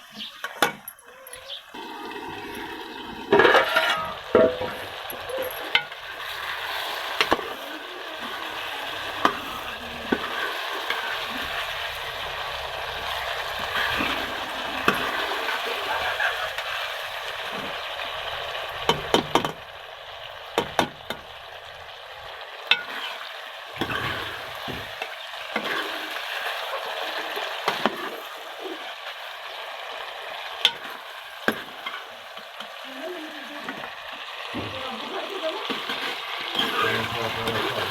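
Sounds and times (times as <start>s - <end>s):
food sizzling in hot oil: 0.1s - 37.9s.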